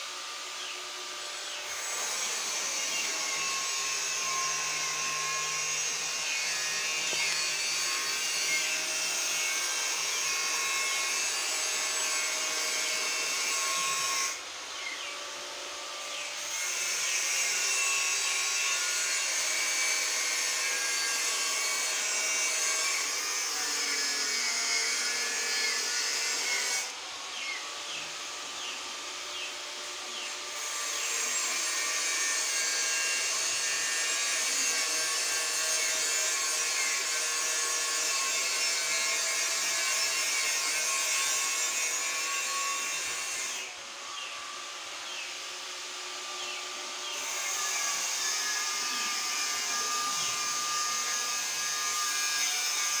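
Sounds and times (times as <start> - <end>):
power tool motor running: 0.0 - 53.0.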